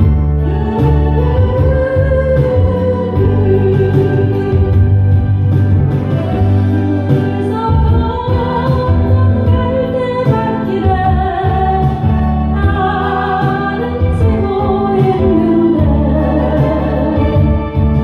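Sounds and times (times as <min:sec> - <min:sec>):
woman singing: 0:00.0 - 0:05.5, 0:06.3 - 0:18.0
electronic organ keyboard: 0:00.0 - 0:18.0.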